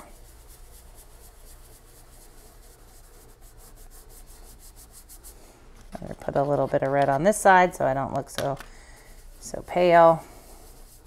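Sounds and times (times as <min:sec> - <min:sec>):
fingertips rubbing pastel on paper: 0:00.0 - 0:07.2, 0:09.0 - 0:11.0.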